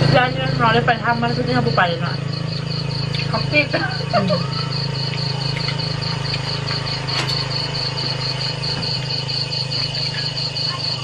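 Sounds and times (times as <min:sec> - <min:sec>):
crickets chirping: 0:00.0 - 0:11.0
steady low hum: 0:00.0 - 0:11.0.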